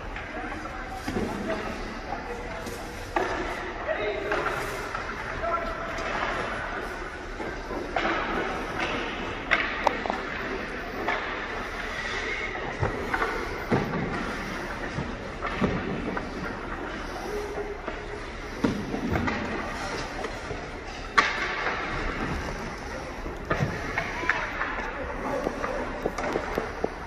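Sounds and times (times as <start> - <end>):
skates scraping and knocking ice: 0.0 - 27.0
steady rink hum: 0.0 - 27.0.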